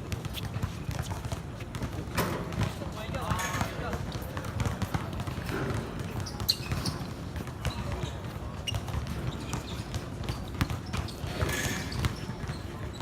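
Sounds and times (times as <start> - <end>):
basketball bouncing on court: 0.0 - 13.0.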